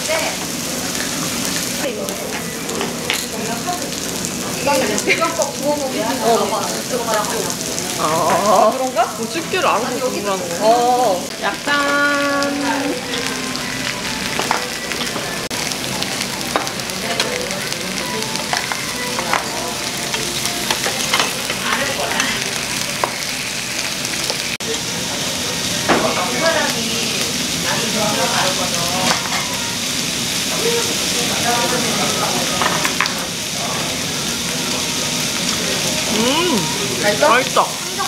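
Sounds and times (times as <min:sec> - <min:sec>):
meat sizzling on a grill: 0:00.0 - 0:38.0.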